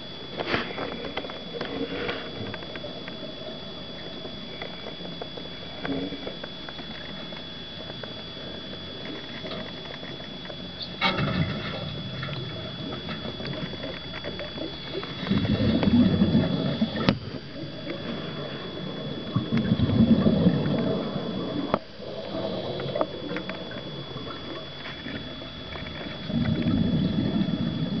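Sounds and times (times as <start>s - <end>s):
exhaled scuba bubbles: 0.0s - 28.0s
faint high whine: 0.0s - 28.0s
steady underwater hiss: 0.0s - 28.0s.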